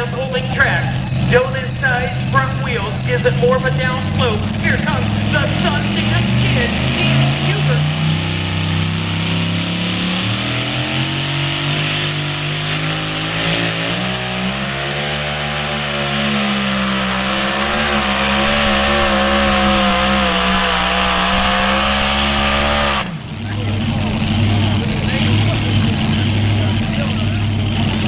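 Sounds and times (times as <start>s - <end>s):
truck engine at full throttle: 0.0s - 28.0s.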